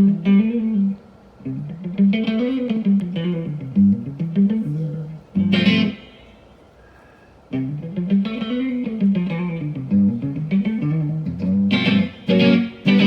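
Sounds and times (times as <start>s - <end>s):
guitar melody and chords: 0.0s - 6.6s, 7.5s - 13.0s.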